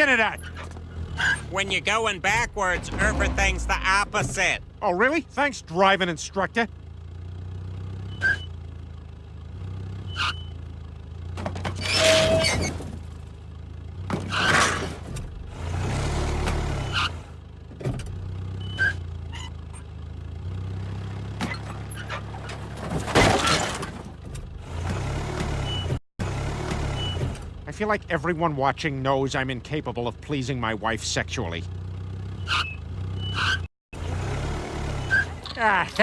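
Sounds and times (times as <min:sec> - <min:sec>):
vehicle engine running: 0:00.0 - 0:23.0, 0:23.9 - 0:36.0.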